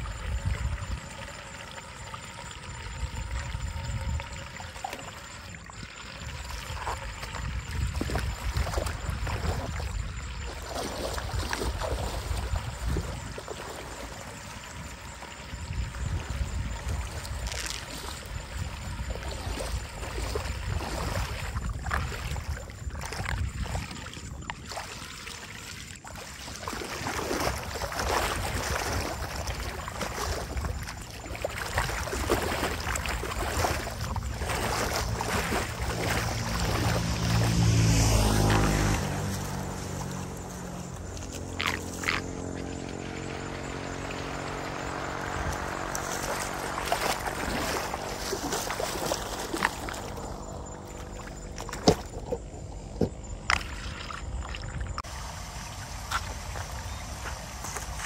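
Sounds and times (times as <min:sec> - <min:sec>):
water trickling down a drain: 0:00.0 - 0:52.6
feet splashing through water: 0:00.0 - 0:58.0.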